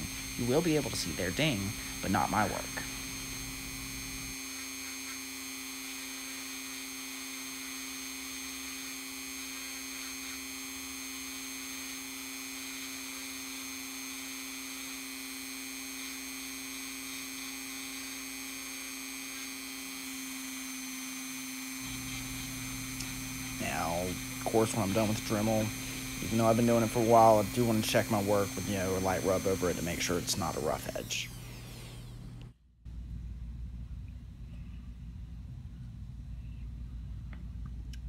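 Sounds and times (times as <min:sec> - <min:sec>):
electrical hum: 0:00.0 - 0:38.0.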